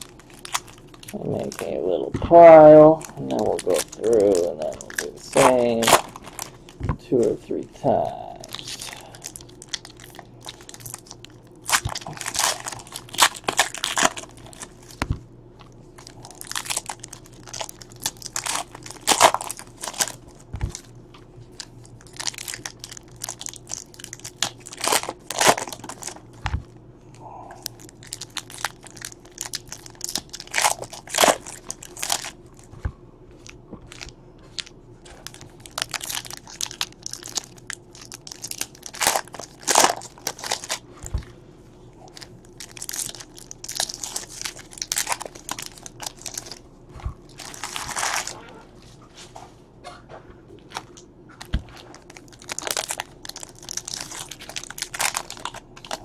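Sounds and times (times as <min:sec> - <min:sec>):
foil wrappers torn and crinkled: 0:00.0 - 0:06.8, 0:07.9 - 0:26.6, 0:27.6 - 0:32.7, 0:33.4 - 0:40.8, 0:42.0 - 0:46.6, 0:47.2 - 0:48.4, 0:50.6 - 0:56.0.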